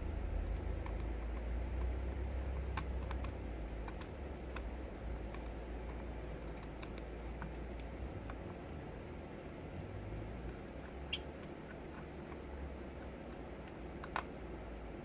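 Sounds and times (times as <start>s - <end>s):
steady low hum: 0.0s - 15.0s
small plastic parts clicking: 0.4s - 8.6s, 10.5s - 14.6s.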